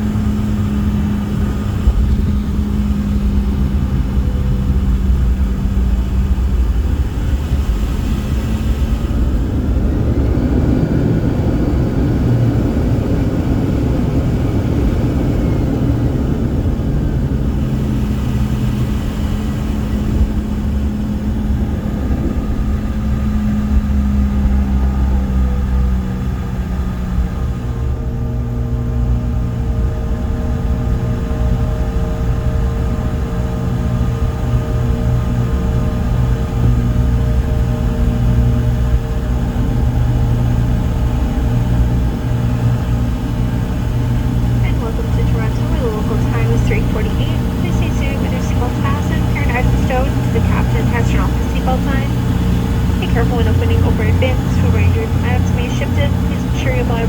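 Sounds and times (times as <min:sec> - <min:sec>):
jet cabin engine hum: 0:00.0 - 0:57.0.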